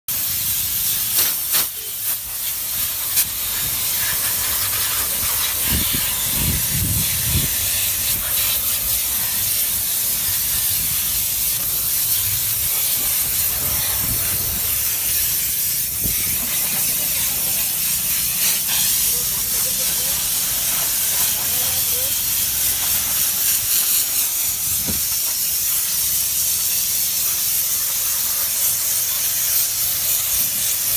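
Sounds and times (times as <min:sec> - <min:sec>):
steam cleaner hissing: 0:00.1 - 0:30.9.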